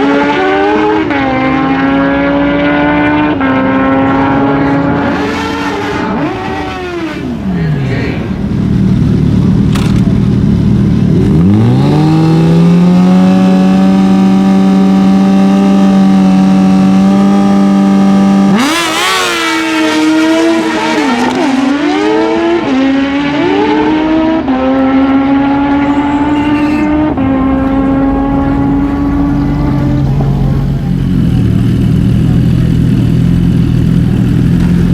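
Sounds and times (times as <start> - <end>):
motorcycle engines at full throttle: 0.0 - 34.9.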